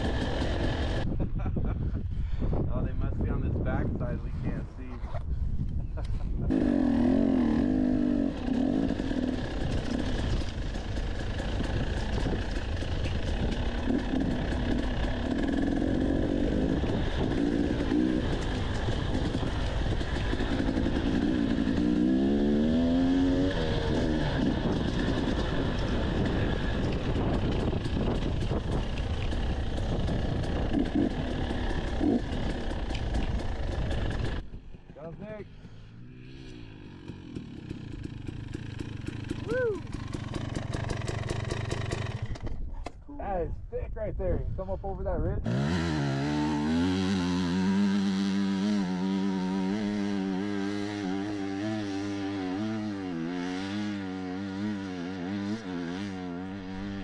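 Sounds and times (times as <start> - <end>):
dirt bike engine revving: 0.0 - 1.2, 6.5 - 42.6, 45.4 - 57.0.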